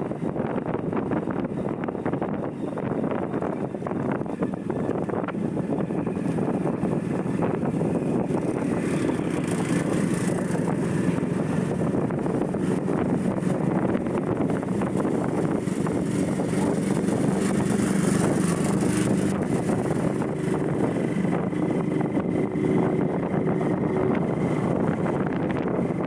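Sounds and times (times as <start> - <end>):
motorcycle engine running: 0.0 - 26.0
road noise: 0.0 - 26.0
wind buffeting microphone: 0.0 - 26.0.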